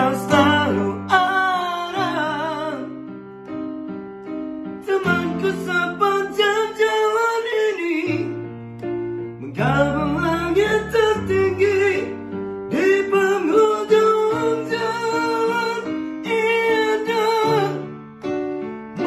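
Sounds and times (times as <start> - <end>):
man singing ballad: 0.0 - 3.2, 4.7 - 8.7, 9.3 - 18.0
electronic keyboard accompaniment: 0.0 - 19.0.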